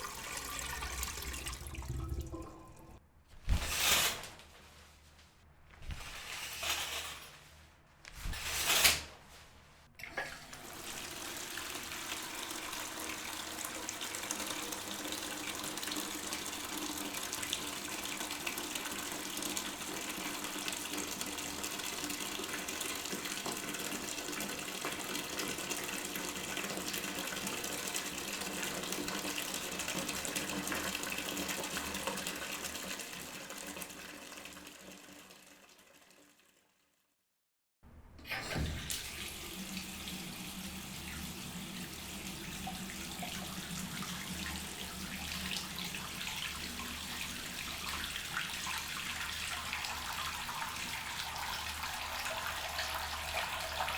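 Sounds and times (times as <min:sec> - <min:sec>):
tap water running: 0:00.0 - 0:03.0, 0:10.0 - 0:36.6, 0:38.2 - 0:53.9.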